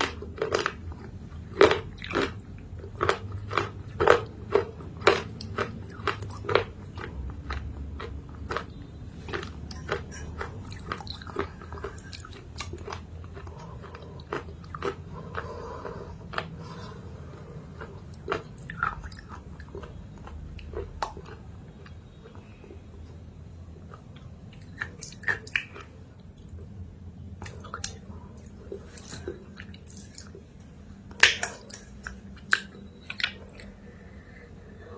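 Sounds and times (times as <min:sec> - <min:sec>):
chewing thick chalk paste: 0:00.0 - 0:30.5.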